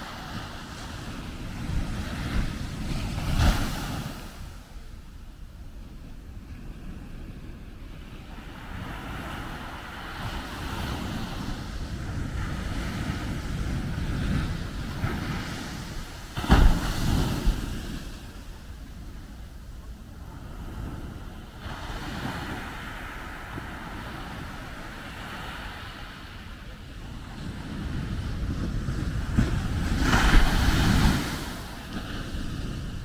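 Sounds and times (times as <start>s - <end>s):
small waves breaking on sand: 0.0s - 5.0s, 6.4s - 33.0s.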